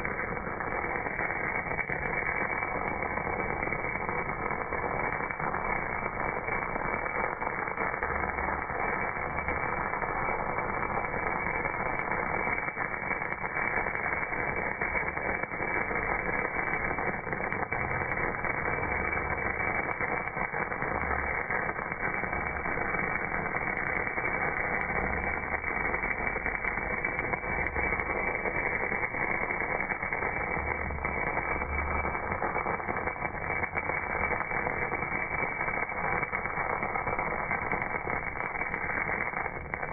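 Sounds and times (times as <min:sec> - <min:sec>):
welding arc hiss: 0:00.0 - 0:39.9.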